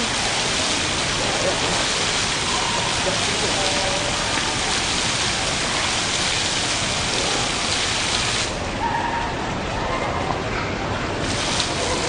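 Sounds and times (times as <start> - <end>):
fountain water splashing into pool: 0.0 - 12.0.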